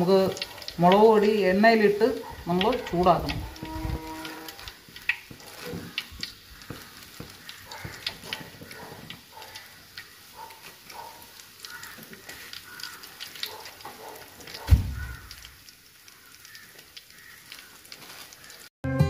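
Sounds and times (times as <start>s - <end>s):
leaves crackling in hot oil: 0.0s - 18.7s.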